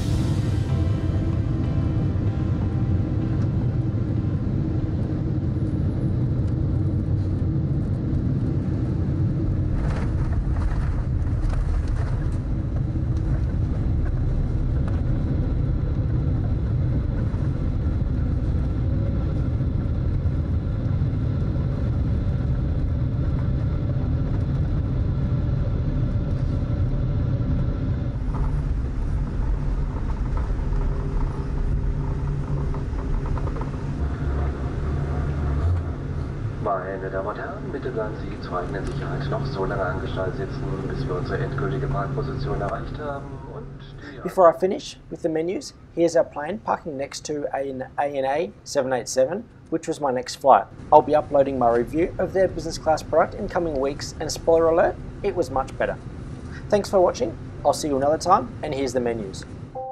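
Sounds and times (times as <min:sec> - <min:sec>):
jet cabin low rumble: 0:00.0 - 0:59.9.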